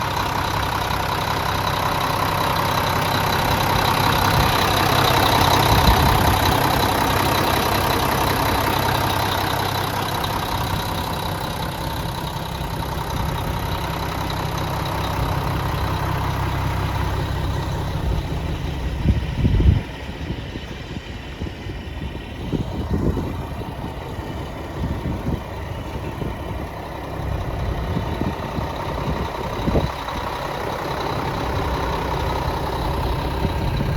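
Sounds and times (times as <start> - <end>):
truck diesel engine idling: 0.0 - 33.9.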